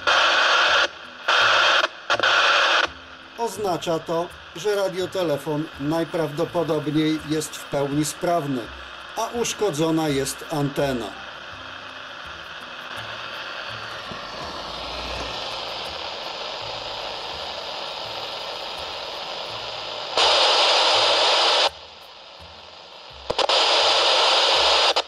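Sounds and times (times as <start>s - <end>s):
radio receiver hiss: 0.0s - 25.0s.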